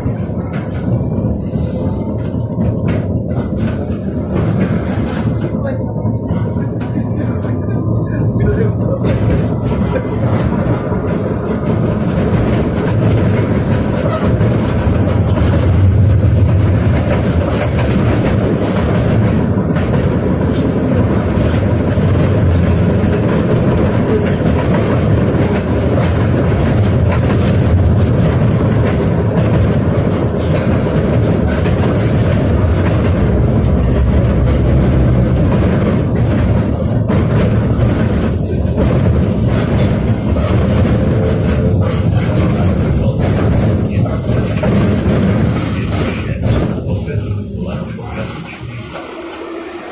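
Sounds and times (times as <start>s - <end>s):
tram wheels rumbling on rails: 0.0s - 49.9s.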